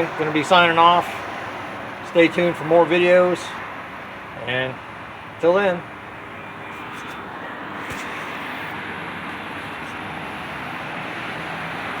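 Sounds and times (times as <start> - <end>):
car engine running on road: 0.0 - 12.0.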